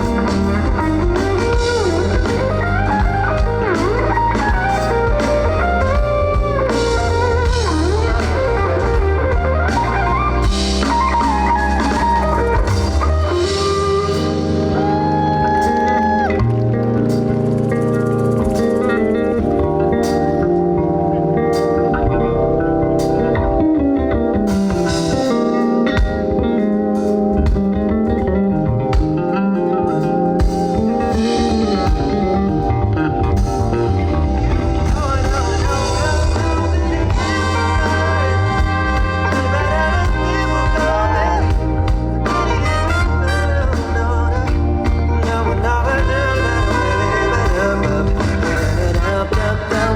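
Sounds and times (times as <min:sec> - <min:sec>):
bass guitar: 0:00.0 - 0:49.9
drum kit: 0:00.0 - 0:49.9
electric guitar lead with bends: 0:00.0 - 0:49.9.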